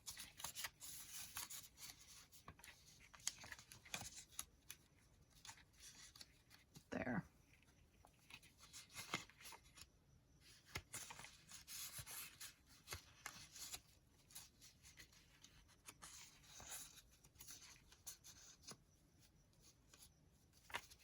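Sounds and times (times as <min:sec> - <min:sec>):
paper rustling: 0:00.0 - 0:06.9, 0:07.6 - 0:18.8, 0:19.9 - 0:21.0.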